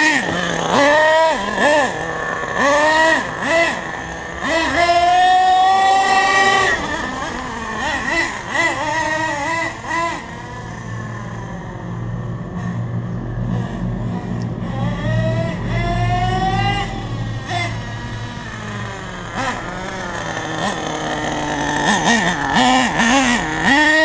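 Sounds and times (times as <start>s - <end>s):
nitro engine revving: 0.0s - 24.0s.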